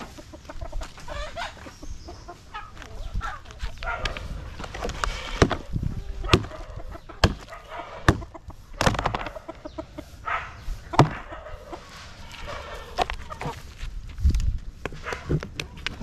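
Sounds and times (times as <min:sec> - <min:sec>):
chickens clucking: 0:00.0 - 0:13.8.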